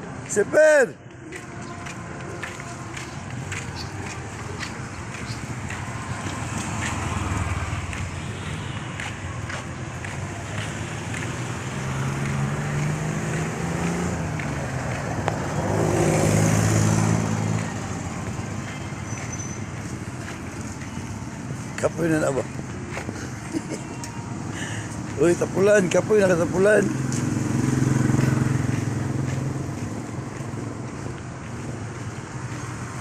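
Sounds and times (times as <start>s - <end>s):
vehicle engine passing: 1.8s - 23.0s, 24.4s - 33.0s.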